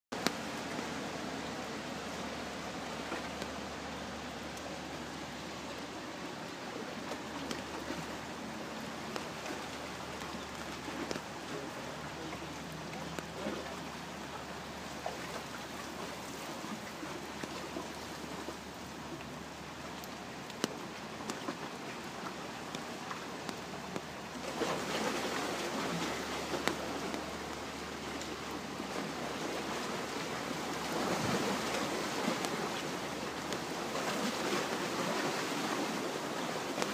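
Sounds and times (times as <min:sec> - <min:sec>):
water rushing and splashing: 0:00.1 - 0:36.9.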